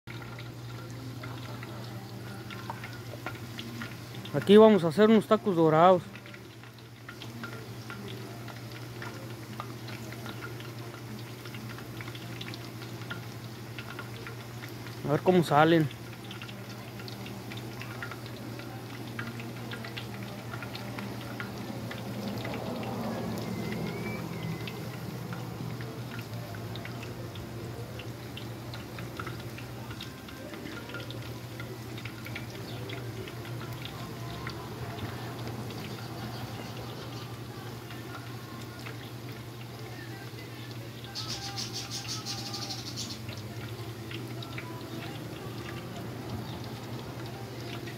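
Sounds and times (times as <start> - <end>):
hot oil sizzling: 0.1 - 47.9.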